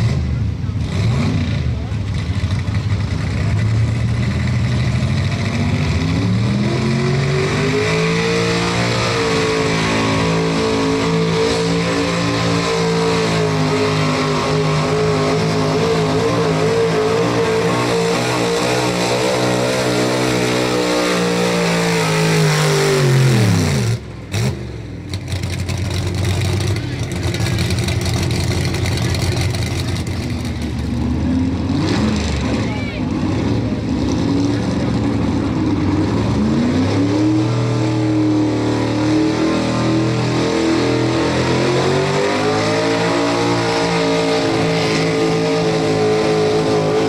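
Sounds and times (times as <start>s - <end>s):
truck engine at full throttle: 0.0s - 47.0s.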